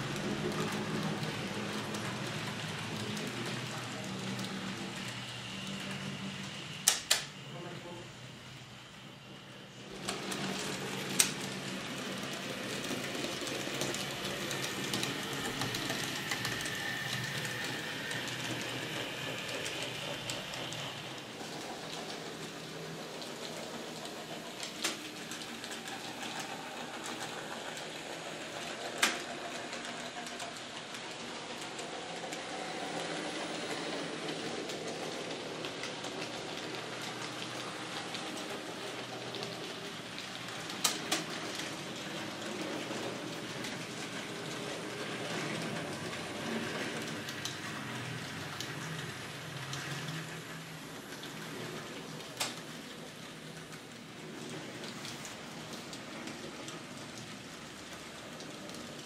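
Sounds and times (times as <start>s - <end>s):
model train motors whirring: 0.0s - 59.0s.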